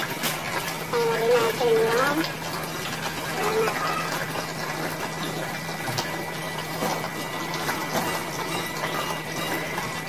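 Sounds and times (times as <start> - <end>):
water running: 0.0 - 10.0.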